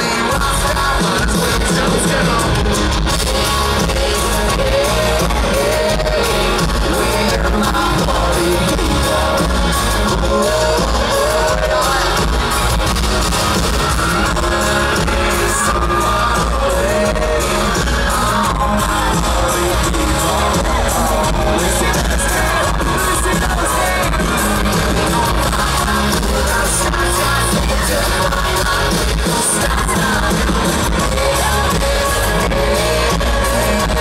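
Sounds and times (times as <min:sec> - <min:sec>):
lead singer: 0:00.0 - 0:34.0
live country-rock band: 0:00.0 - 0:34.0.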